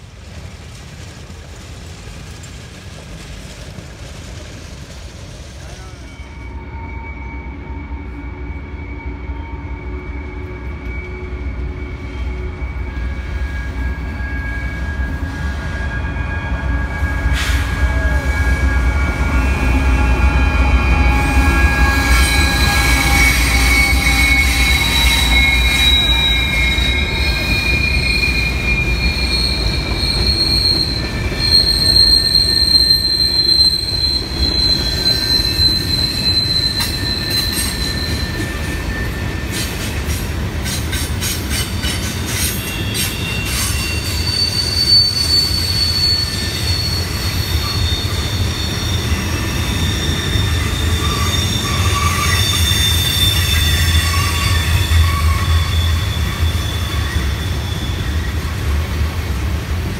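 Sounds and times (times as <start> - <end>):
low train rumble: 0.0 - 59.9
train wheels squealing: 0.7 - 59.0.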